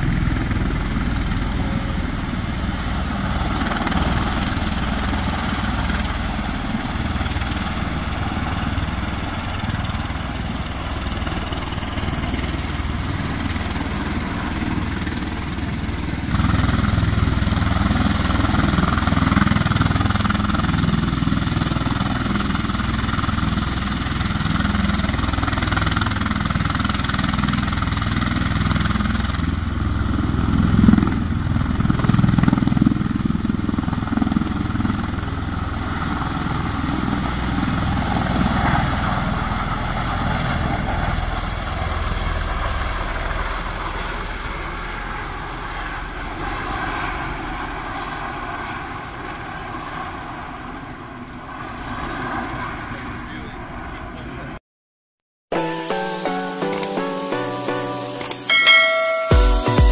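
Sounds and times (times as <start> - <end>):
tiltrotor aircraft drone: 0.0 - 54.6, 55.5 - 59.9.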